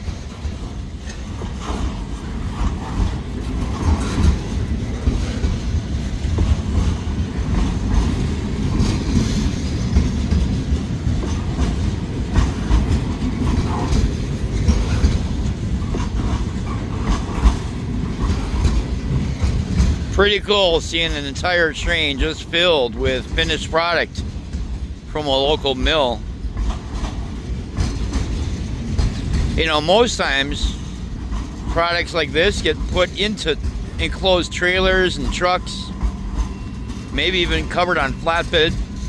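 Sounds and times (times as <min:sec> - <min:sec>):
steel wheels rumbling on rail: 0:00.0 - 0:39.0
wheels clacking on rail joints: 0:00.0 - 0:39.0.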